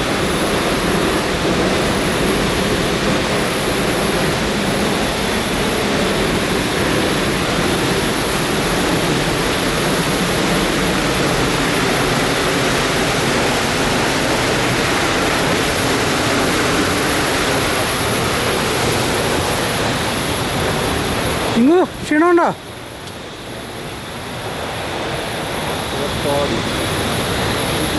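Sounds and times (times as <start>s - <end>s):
thin high steady tone: 0.0s - 27.9s
waterfall rushing: 0.0s - 27.9s.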